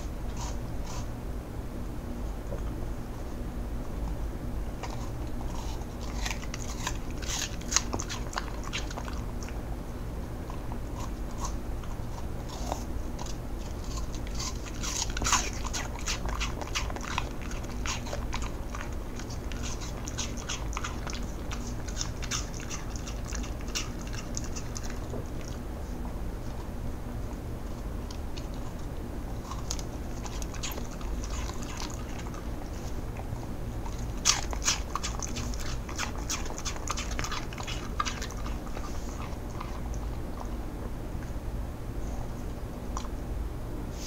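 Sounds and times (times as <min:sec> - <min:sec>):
dog chewing crisp apple: 0:00.0 - 0:01.2, 0:04.6 - 0:43.3.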